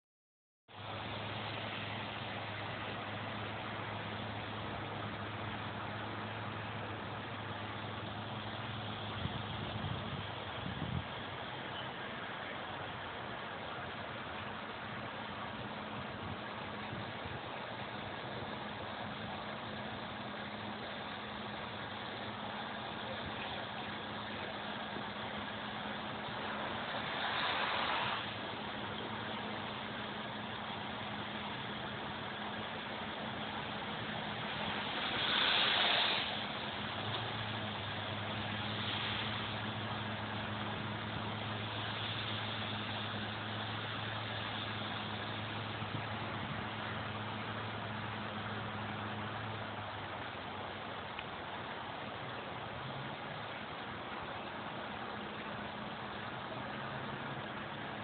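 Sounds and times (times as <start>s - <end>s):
even hiss: 0.8s - 58.0s.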